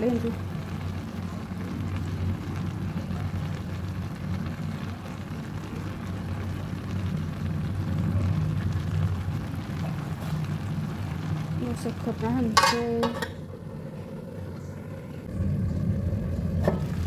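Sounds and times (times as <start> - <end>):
food sizzling in a wok: 0.0 - 17.0
low rumble of stove: 0.0 - 17.0.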